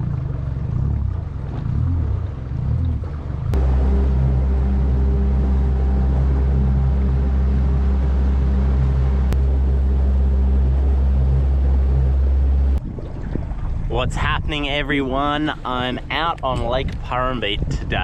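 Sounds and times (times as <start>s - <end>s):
outboard motor droning: 0.0s - 18.0s.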